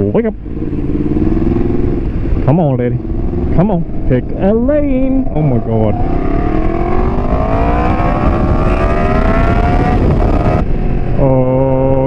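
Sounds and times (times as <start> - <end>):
motorcycle engine accelerating: 0.0 - 12.0
wind rushing past microphone: 0.0 - 12.0.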